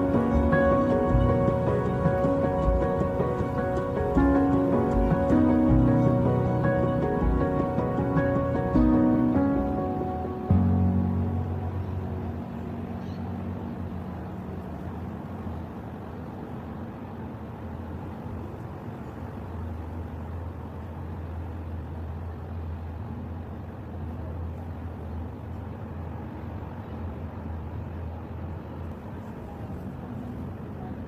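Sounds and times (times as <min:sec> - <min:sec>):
low engine hum: 0:00.0 - 0:31.0
outdoor rumble: 0:00.0 - 0:31.0.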